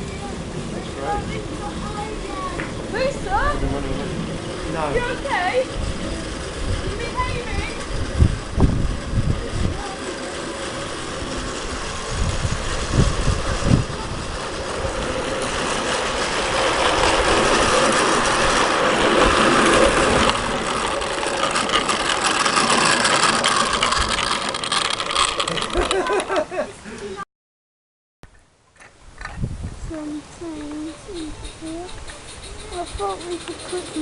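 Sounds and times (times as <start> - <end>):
steam locomotive hissing: 0.1 - 25.8, 30.7 - 34.0.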